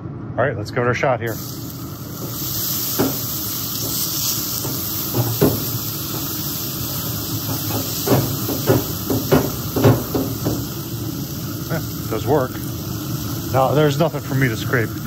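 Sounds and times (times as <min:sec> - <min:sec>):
wet brush hissing on hot grill: 0:01.3 - 0:15.0
brush scrubbing grill grates: 0:02.1 - 0:15.0.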